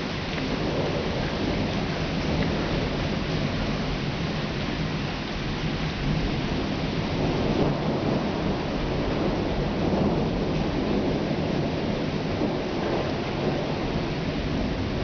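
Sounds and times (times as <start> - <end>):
low rumble of thunder: 0.0 - 15.0
steady rain falling: 0.0 - 15.0.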